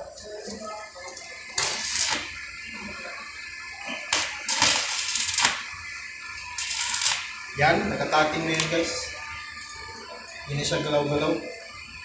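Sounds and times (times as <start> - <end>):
welding arc crackling: 0.2 - 10.8.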